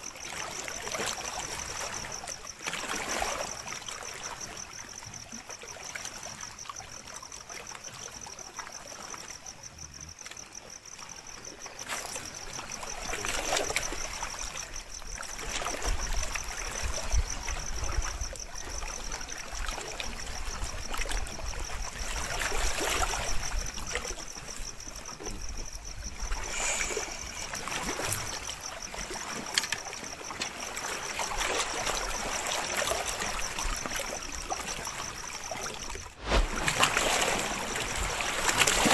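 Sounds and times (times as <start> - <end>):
water lapping at shore: 0.0 - 9.4, 10.2 - 38.9.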